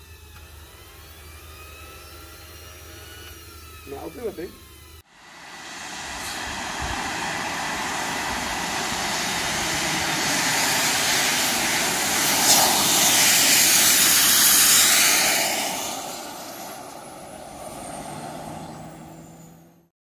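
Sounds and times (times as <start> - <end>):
jet turbine roar passing by: 0.0 - 19.9.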